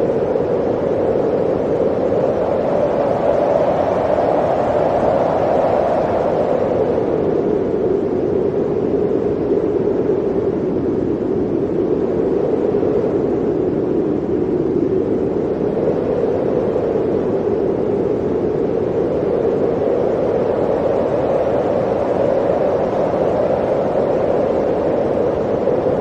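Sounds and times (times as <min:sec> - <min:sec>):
blizzard wind rushing: 0:00.0 - 0:26.0.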